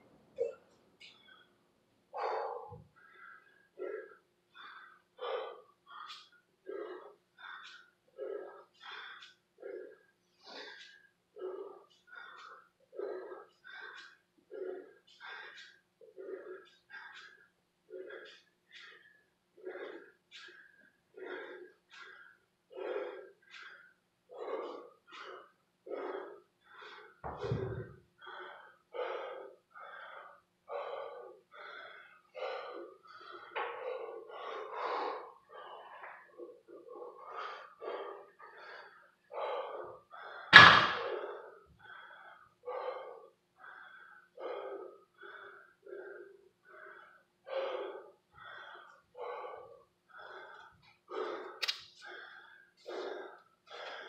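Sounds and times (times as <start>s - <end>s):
man breathing hard: 2.1s - 54.0s.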